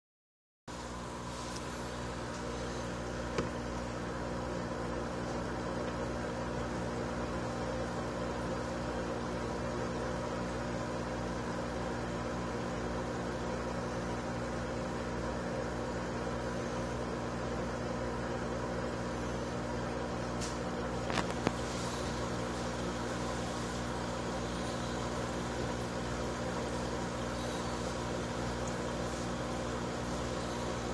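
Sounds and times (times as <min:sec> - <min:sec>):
aquarium pump humming: 0:00.7 - 0:30.9.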